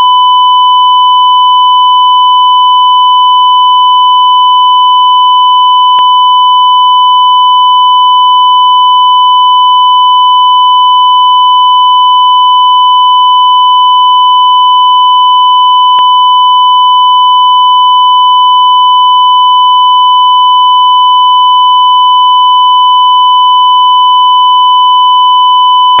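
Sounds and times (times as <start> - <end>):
censor bleep tone: 0.0 - 26.0.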